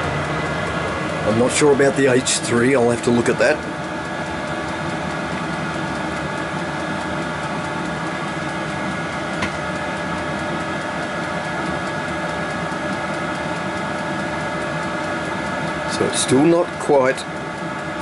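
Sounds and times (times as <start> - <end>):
heater click: 0.0 - 18.0
heater fan whining: 0.0 - 18.0.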